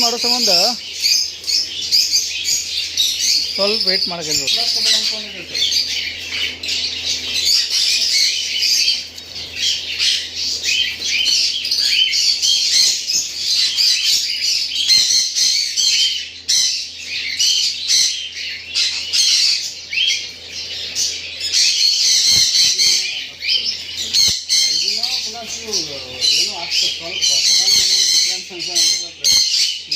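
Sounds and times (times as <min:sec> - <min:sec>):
parrots chattering and squawking: 0:00.0 - 0:29.9.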